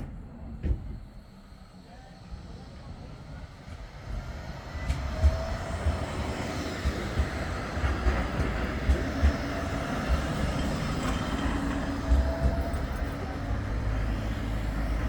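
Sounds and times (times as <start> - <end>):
tram rumbling past: 0.0 - 15.0.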